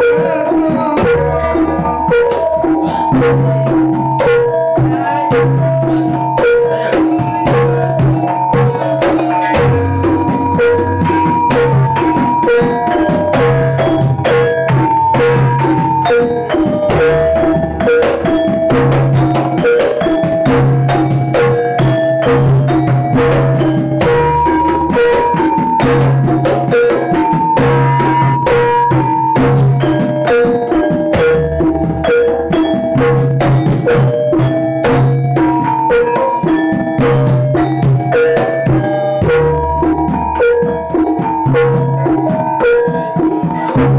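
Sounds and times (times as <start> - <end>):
drums beating fast rhythm: 0.0 - 43.9
tuned percussion melody: 0.0 - 43.9.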